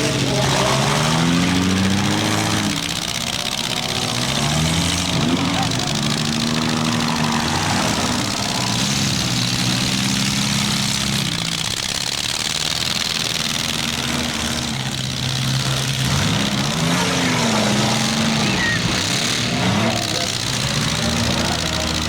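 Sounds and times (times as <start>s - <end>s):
small car engine revving: 0.0s - 22.0s.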